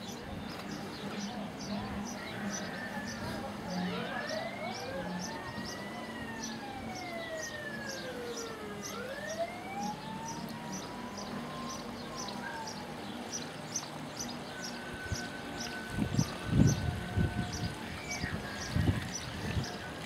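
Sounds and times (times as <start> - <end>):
siren wailing: 2.0 - 20.0.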